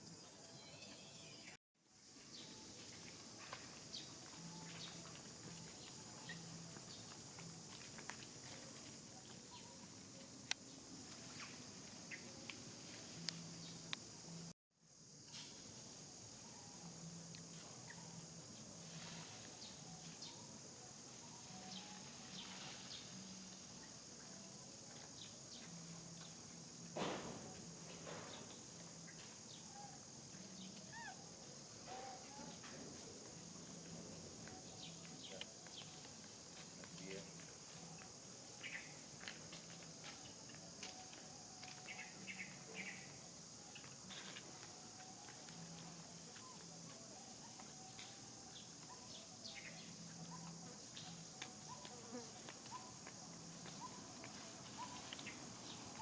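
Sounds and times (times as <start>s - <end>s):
high-pitched insect drone: 2.4s - 56.0s.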